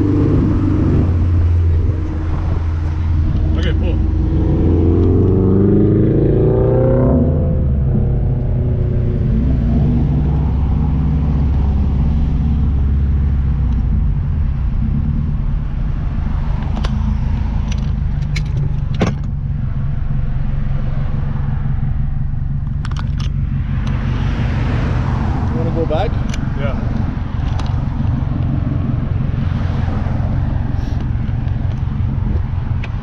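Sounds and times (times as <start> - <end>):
car engine idling at low revs: 0.0 - 5.4, 7.5 - 33.0.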